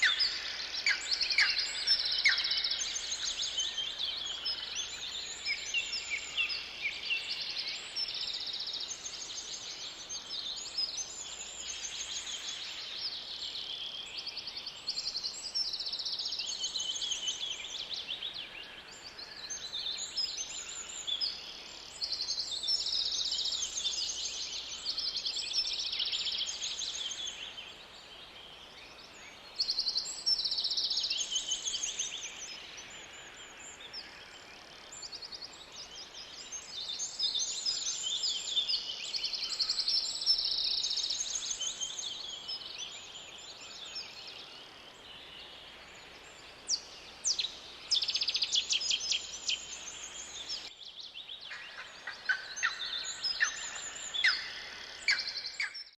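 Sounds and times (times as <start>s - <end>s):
faint steady background hiss: 0.0s - 55.9s
songbirds chirping and trilling: 0.0s - 56.0s.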